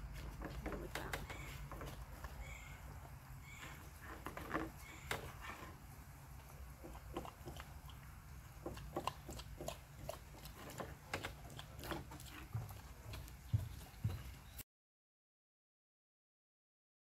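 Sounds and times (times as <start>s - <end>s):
dogs chewing food: 0.0s - 14.6s.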